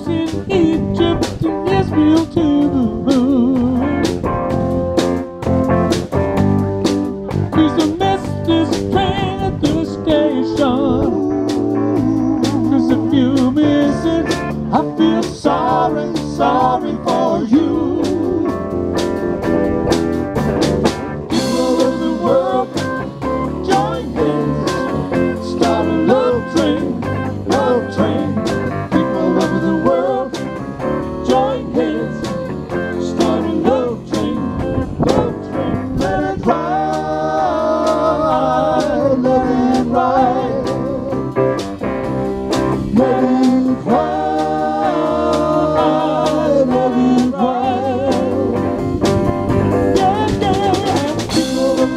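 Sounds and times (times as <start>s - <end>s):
electric guitar lead: 0.0s - 51.9s
live band playing: 0.0s - 51.9s.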